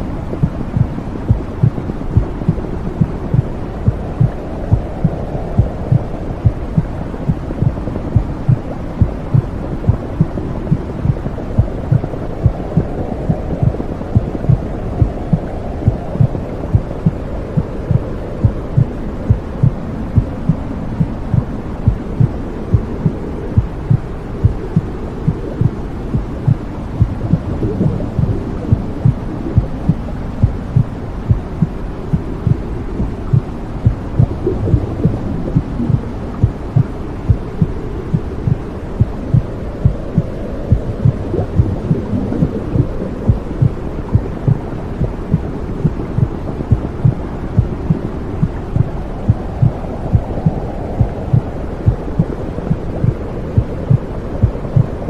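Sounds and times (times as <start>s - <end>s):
low whooshing rumble: 0.0s - 55.0s
heartbeat thumping: 0.3s - 54.9s.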